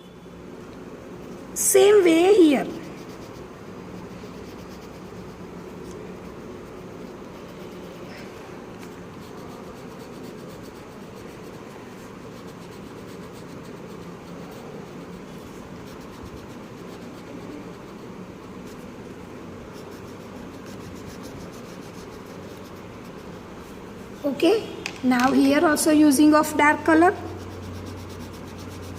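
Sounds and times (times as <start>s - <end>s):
pencil scratching on paper: 2.0s - 19.0s, 19.6s - 24.4s, 26.7s - 28.9s.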